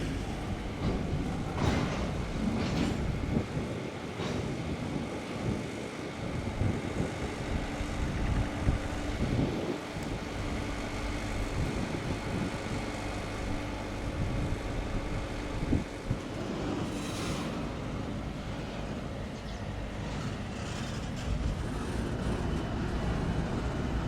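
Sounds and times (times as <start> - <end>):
diesel locomotive engine droning: 0.0 - 24.0
passing train rumble: 0.0 - 24.0.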